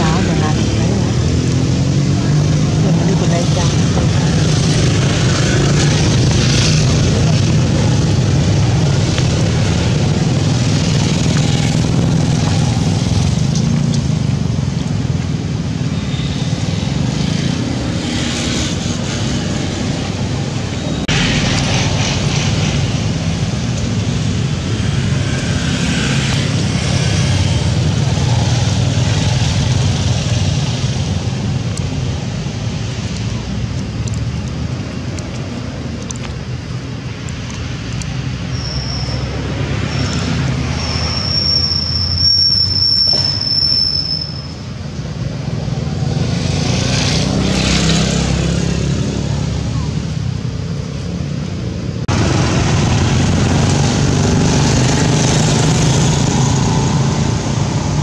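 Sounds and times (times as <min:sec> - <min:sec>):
engine drone: 0:00.0 - 0:58.0.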